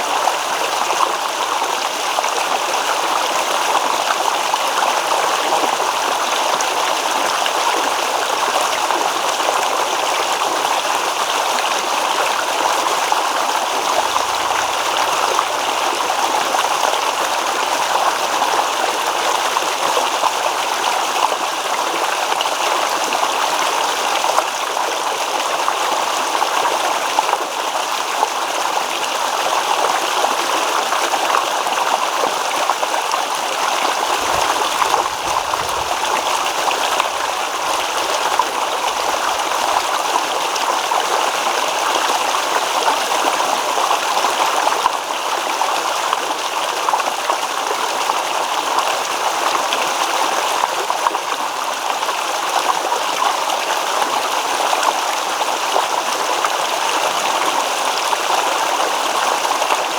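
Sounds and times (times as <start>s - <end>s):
stream water running over stones: 0.0s - 59.9s.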